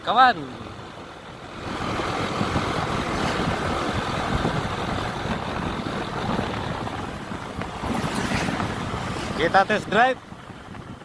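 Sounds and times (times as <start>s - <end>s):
road noise: 0.0s - 11.0s
scooter engine: 0.0s - 11.0s.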